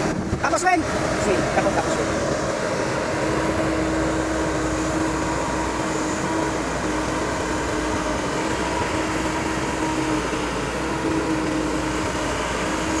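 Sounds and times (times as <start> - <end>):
machine running with hum: 0.0 - 13.0.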